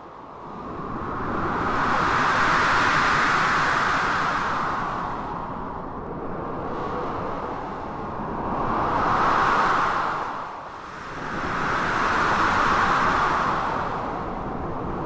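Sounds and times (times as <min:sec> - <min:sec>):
strong wind: 0:00.0 - 0:15.0.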